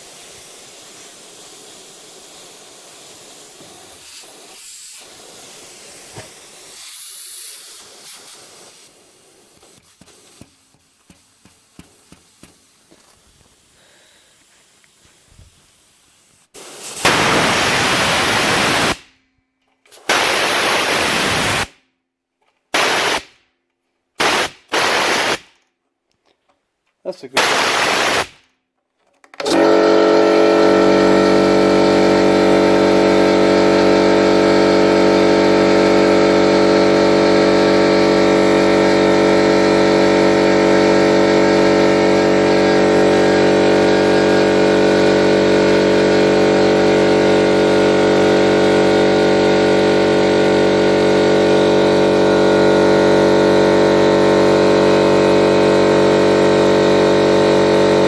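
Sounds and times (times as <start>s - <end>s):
air compressor running: 0.0s - 19.1s, 19.8s - 21.8s, 22.7s - 23.3s, 24.2s - 25.5s, 27.3s - 28.5s, 29.4s - 58.0s.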